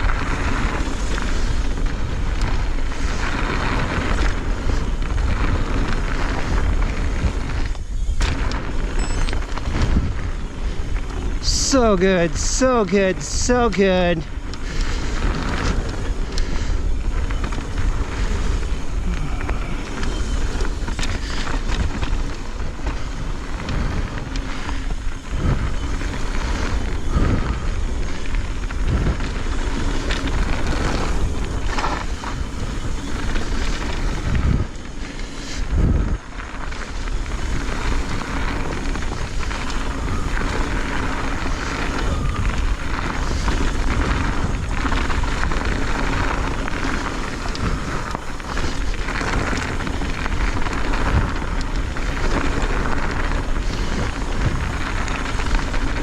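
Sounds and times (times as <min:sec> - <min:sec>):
bike tyres rolling on dirt: 0:00.0 - 0:56.0
wind on microphone: 0:00.0 - 0:56.0.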